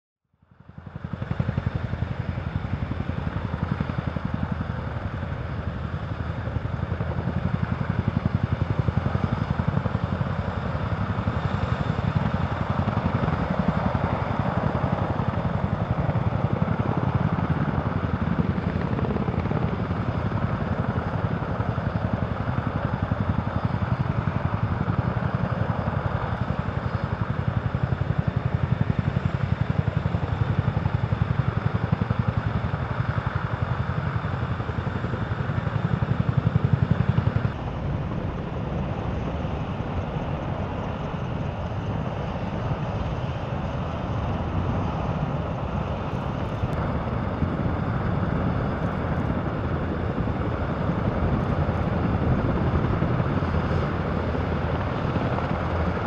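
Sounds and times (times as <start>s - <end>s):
helicopter rotor beat: 0.4s - 56.0s.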